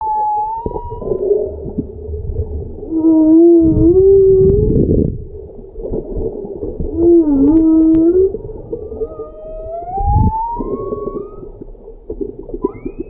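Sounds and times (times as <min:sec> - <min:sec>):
whale calls moaning: 0:00.0 - 0:05.2, 0:06.5 - 0:11.9, 0:12.6 - 0:13.0
low rumble: 0:00.0 - 0:13.0.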